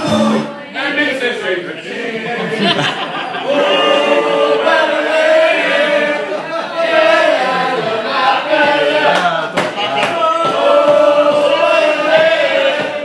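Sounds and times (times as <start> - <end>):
people singing together: 0.0 - 13.0.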